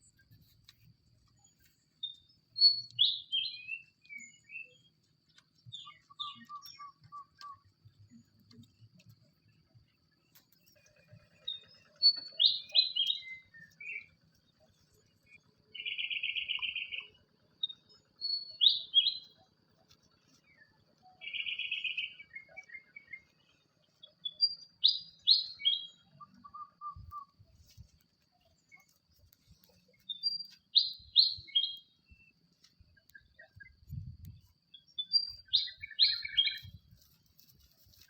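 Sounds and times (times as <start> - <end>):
songbird singing: 0.0 - 38.0.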